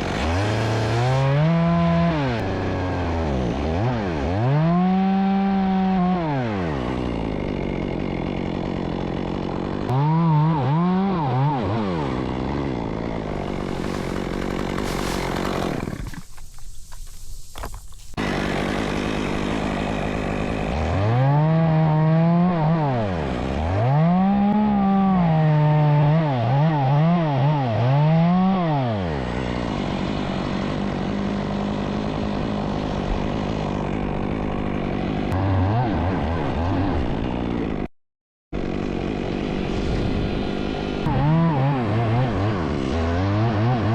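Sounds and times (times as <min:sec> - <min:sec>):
chainsaw revving: 0:00.0 - 0:16.4, 0:18.2 - 0:37.9, 0:38.6 - 0:43.9.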